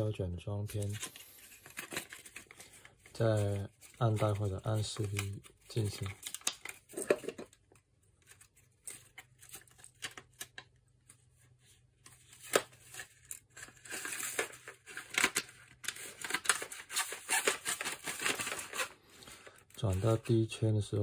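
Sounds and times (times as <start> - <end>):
film and paper rustling: 0.7 - 21.0.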